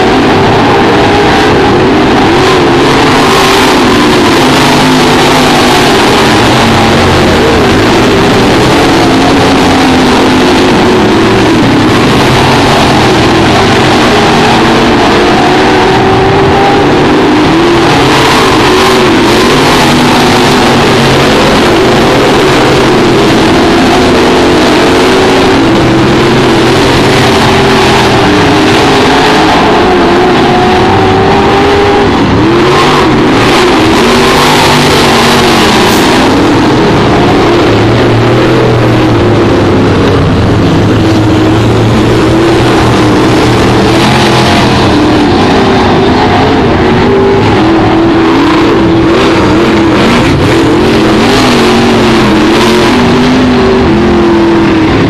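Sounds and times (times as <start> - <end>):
race car engines lapping: 0.0 - 55.0.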